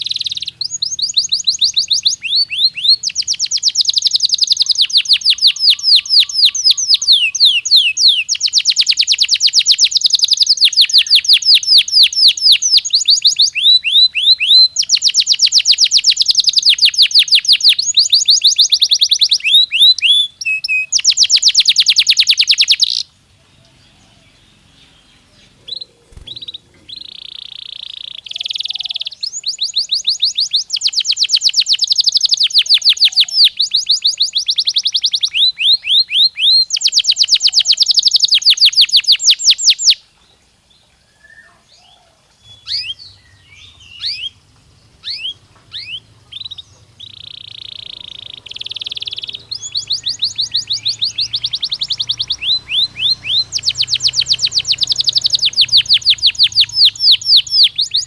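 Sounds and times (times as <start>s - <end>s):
canary singing with trills: 0.0s - 40.2s, 40.8s - 58.0s
bird chirps: 0.0s - 58.0s.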